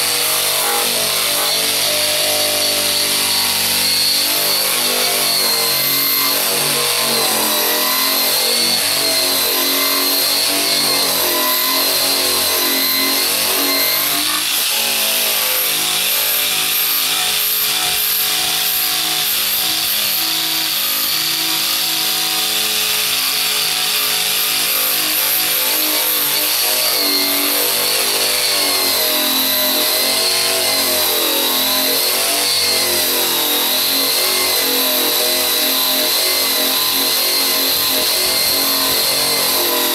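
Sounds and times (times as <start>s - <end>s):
rotary tool grinding paint: 0.0s - 39.9s.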